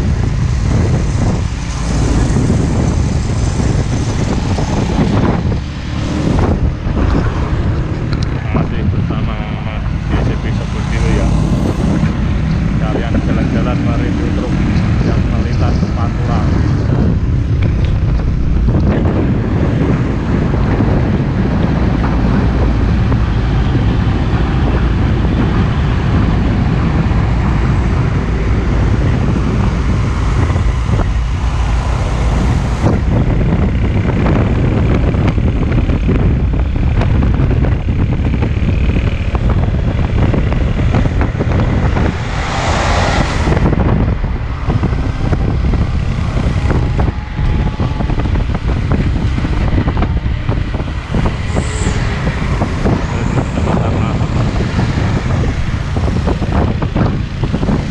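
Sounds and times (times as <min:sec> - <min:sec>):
trucks rumbling past: 0:00.0 - 0:57.9
wind buffeting microphone: 0:00.0 - 0:57.9.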